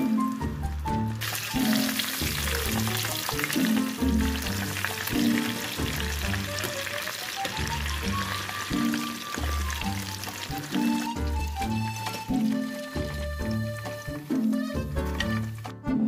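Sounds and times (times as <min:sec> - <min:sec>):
deep-frying crackling sizzle: 0:00.0 - 0:15.8
background music with beat: 0:00.0 - 0:16.0.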